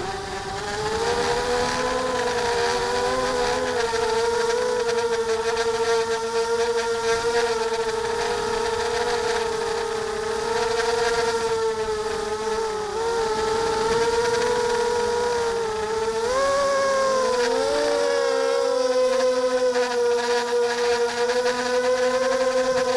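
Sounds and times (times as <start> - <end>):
drone propellers whining: 0.0 - 22.9.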